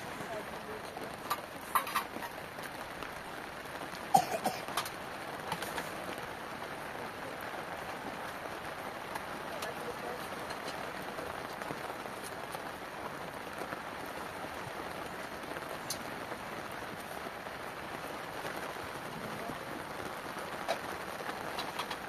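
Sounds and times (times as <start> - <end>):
rain drop clicks: 0.0 - 22.0
steady rain falling: 0.0 - 22.0.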